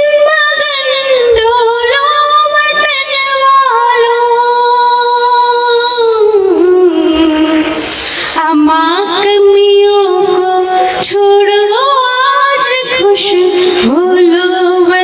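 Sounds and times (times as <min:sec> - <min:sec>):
woman singing long held notes: 0:00.0 - 0:15.0.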